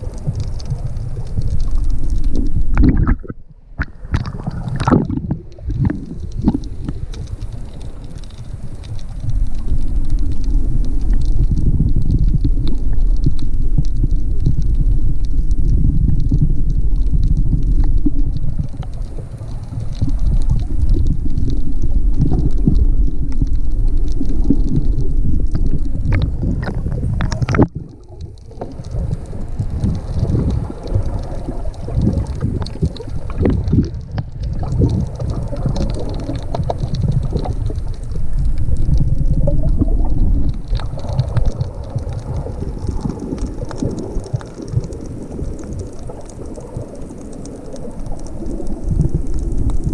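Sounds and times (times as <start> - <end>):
muffled underwater sloshing: 0.0 - 49.9
underwater crackles: 0.0 - 49.9.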